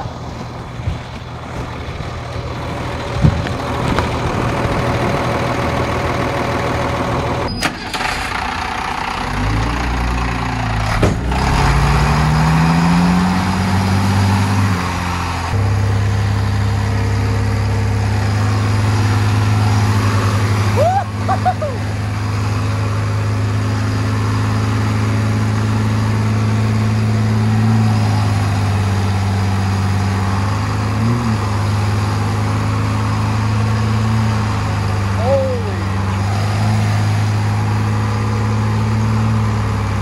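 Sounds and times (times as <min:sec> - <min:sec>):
heavy vehicle engine revving: 0:00.0 - 0:40.0.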